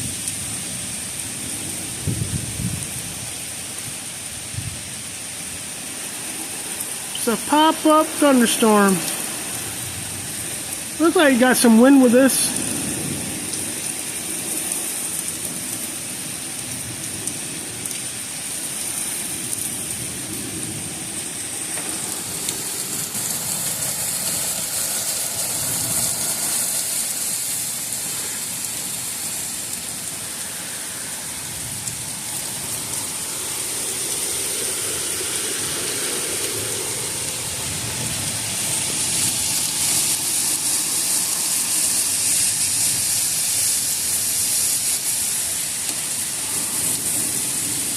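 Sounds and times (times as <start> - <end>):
gusty wind: 0.0 - 47.9
heavy rain pouring: 0.0 - 47.9.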